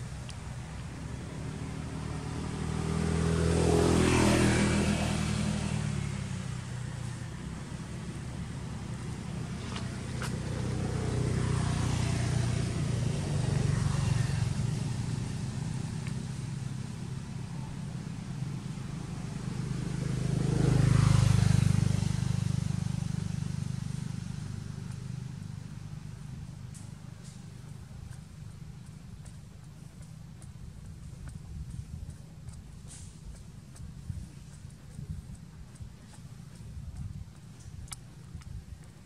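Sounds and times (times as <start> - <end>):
vehicle engine drone passing by: 0.0 - 39.0.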